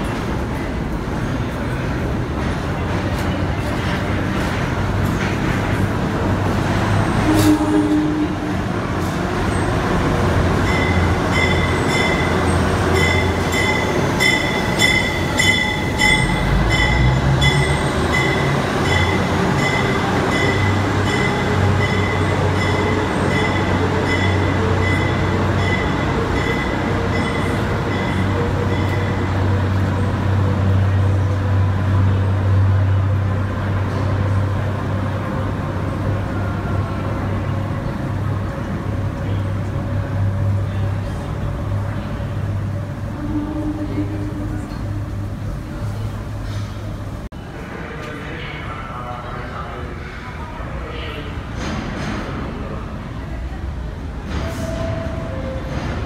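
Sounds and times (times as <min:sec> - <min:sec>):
locomotive engine rumble: 0:00.0 - 0:56.0
train cars rolling on rails: 0:00.0 - 0:56.0.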